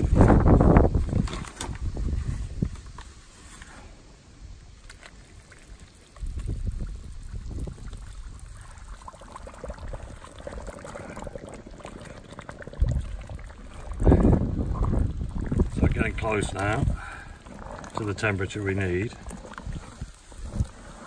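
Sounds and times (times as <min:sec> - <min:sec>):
lime wash bubbling and crackling: 0:00.0 - 0:21.0.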